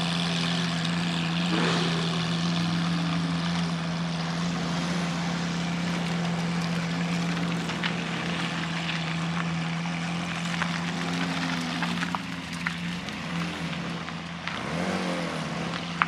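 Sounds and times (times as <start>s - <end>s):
engine droning steadily: 0.0s - 16.0s
outdoor background noise: 0.0s - 16.0s.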